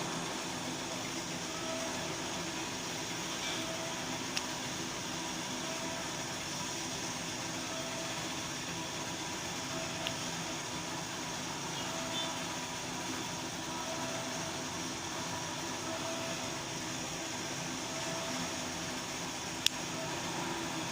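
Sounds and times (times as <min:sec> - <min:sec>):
constant hum and hiss: 0:00.0 - 0:20.9.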